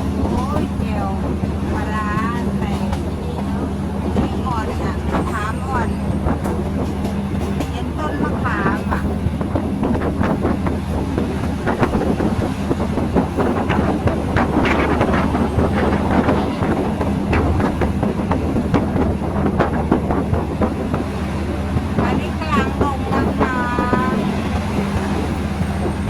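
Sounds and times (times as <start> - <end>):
train low drone: 0.0 - 26.0.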